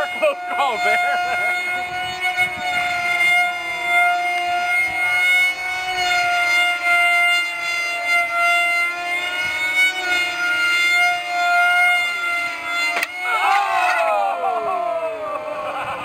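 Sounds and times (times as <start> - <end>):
model airplane motors whining: 0.0 - 16.0.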